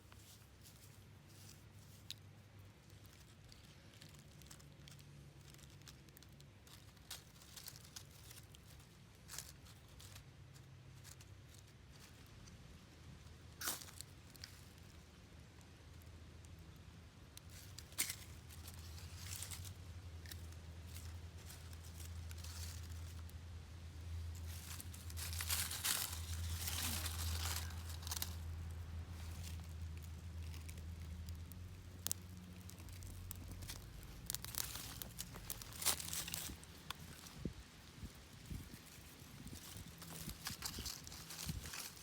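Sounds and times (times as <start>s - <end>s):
material crinkling and tearing: 0.1s - 12.6s, 15.8s - 23.4s, 24.1s - 42.0s.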